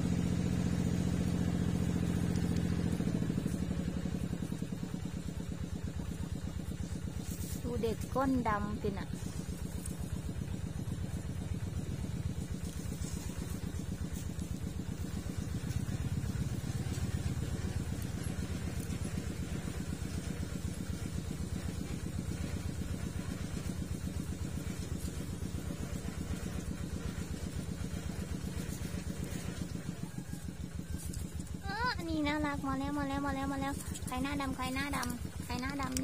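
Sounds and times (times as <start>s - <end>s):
small engine idling: 0.0s - 36.0s.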